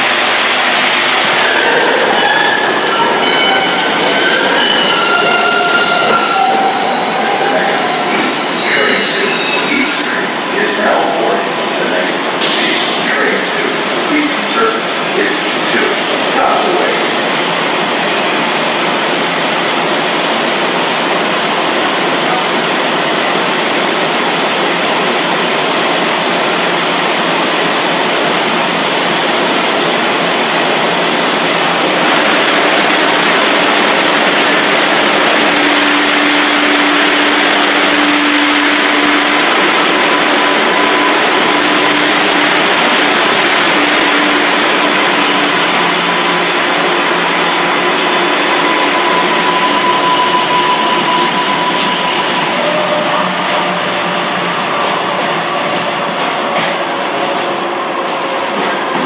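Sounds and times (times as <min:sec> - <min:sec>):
subway train wheels on rails: 0:00.0 - 0:59.0.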